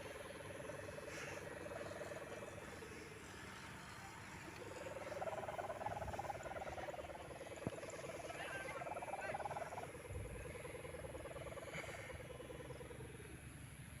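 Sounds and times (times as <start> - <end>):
kite hummer buzzing: 0.0 - 14.0.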